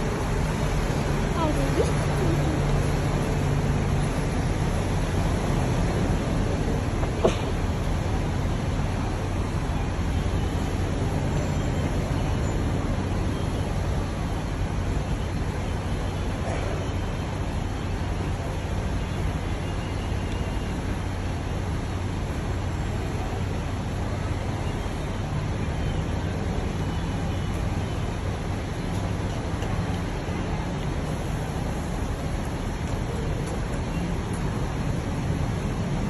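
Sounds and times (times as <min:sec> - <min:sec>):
diesel buses idling: 0:00.0 - 0:36.0.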